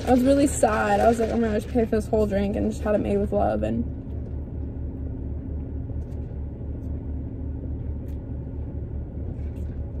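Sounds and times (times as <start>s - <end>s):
car idling: 0.0s - 10.0s.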